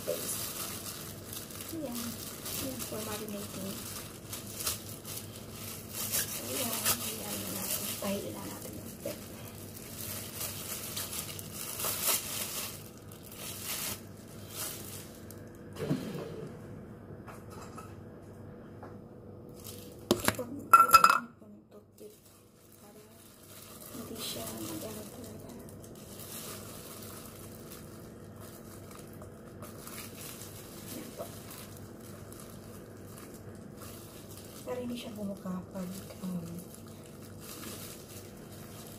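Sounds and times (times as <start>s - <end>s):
plastic glove crinkling: 0.0s - 15.8s, 19.5s - 21.2s, 21.8s - 38.9s.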